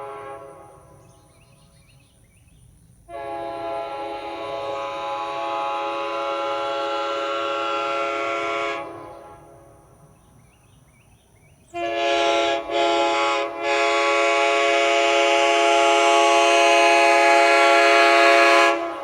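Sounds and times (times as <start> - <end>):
locomotive air horn chord: 0.0 - 1.3, 3.1 - 9.9, 11.7 - 19.0.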